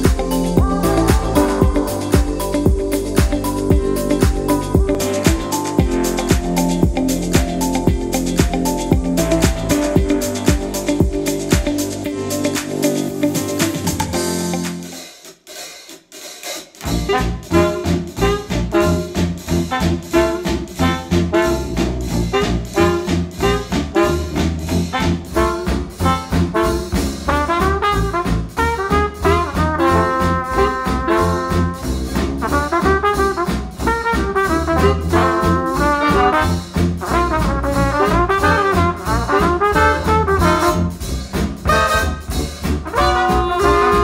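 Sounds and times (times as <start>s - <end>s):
jazz band playing swing: 0.0s - 44.0s.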